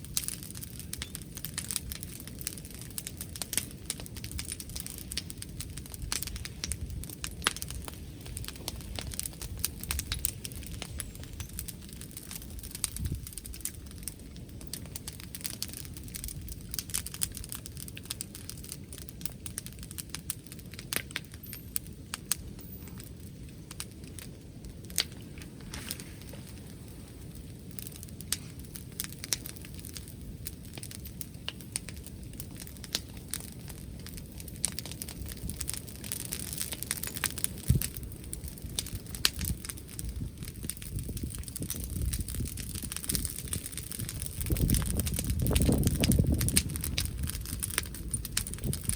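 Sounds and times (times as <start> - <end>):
bonfire crackling and popping: 0.0 - 48.9
wind rumble: 0.0 - 48.9.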